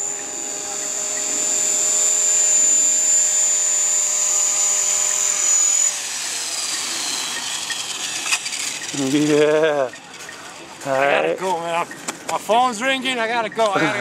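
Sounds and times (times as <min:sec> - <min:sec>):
rc helicopter motor whine: 0:00.0 - 0:11.4
helicopter rotor noise: 0:00.0 - 0:14.0.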